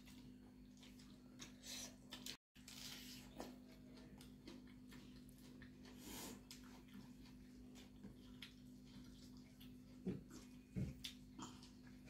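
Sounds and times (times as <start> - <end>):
eating and chewing sounds: 0.0 - 12.0.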